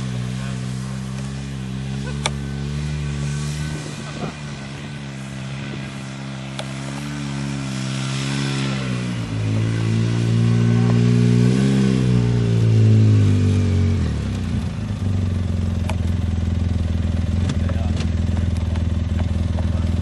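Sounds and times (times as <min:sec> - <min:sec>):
vehicle engine driving: 0:00.0 - 0:20.0.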